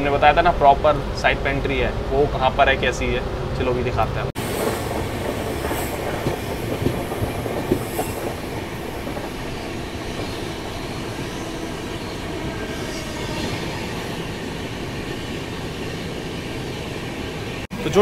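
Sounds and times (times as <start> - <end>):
train wheels rumbling and rattling: 0.0 - 17.7.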